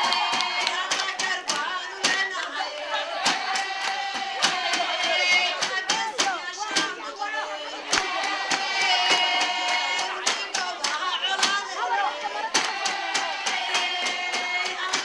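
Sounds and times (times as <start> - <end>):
crowd clapping in rhythm: 0.0 - 15.0
voices singing: 0.0 - 15.0.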